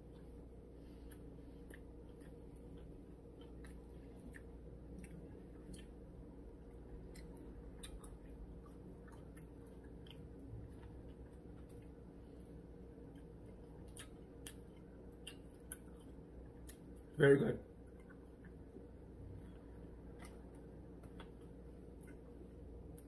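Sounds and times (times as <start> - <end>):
person chewing: 0.0 - 17.2, 17.8 - 23.0.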